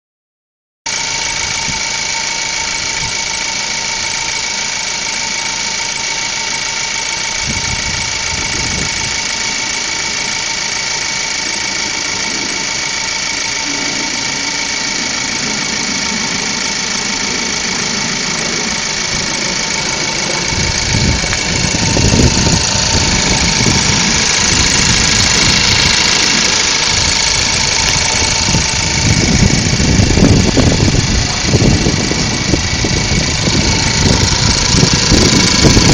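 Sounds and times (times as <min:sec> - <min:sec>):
car engine hiss and whine: 0:00.9 - 0:35.9
low uneven rumble: 0:01.4 - 0:35.9.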